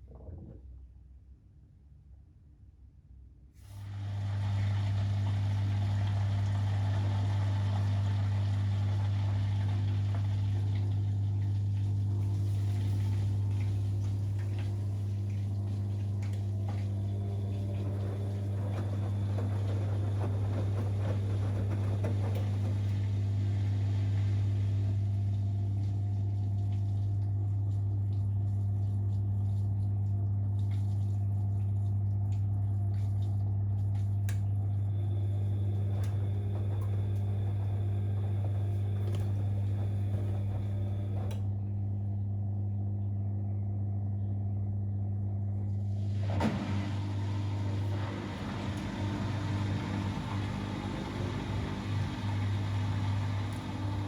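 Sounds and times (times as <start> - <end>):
water swishing in drum: 3.7 - 41.4, 46.1 - 54.0
washing machine motor hum: 3.7 - 54.0.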